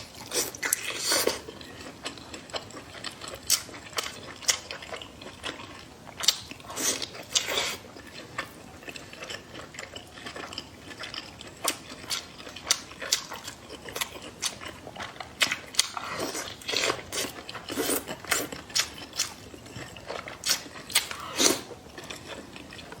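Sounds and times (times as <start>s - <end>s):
chewing and biting: 0.0s - 23.0s.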